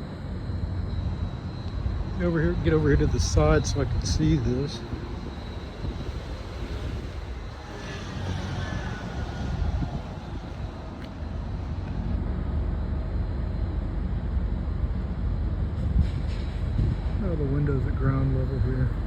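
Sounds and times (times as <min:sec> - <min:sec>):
low urban rumble: 0:00.0 - 0:19.0.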